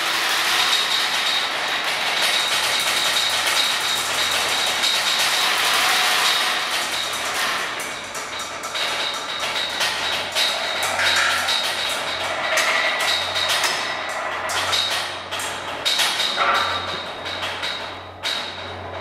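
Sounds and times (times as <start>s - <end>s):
rushing rattling percussion: 0.0s - 19.0s.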